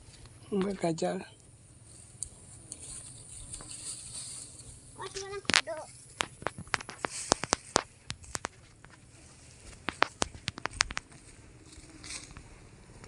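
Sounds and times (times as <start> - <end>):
grass rustling: 0.0 - 13.0
footsteps on dirt path: 1.8 - 13.0.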